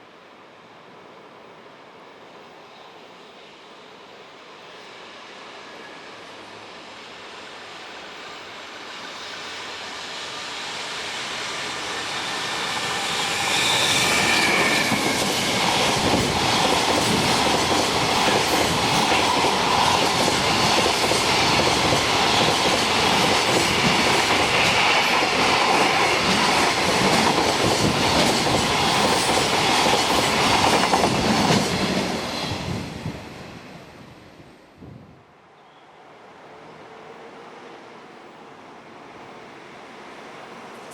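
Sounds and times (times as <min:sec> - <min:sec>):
freight train passing: 0:00.0 - 0:40.9.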